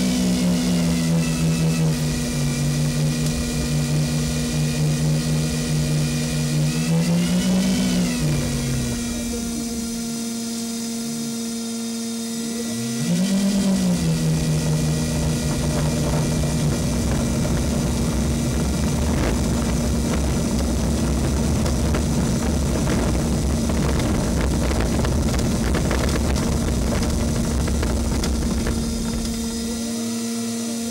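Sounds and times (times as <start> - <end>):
electric motors whining: 0.0 - 30.9
small cooling fan whine: 0.0 - 30.9.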